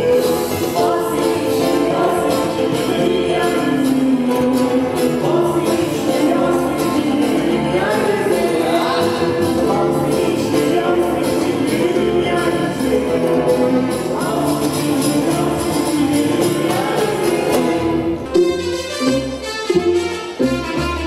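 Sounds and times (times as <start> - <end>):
live band playing: 0.0 - 21.0
percussion beat: 0.0 - 21.0.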